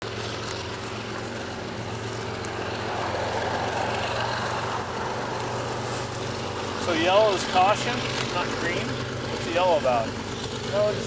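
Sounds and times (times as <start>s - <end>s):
broad rush of noise: 0.0s - 11.0s
engine drone: 0.0s - 11.0s.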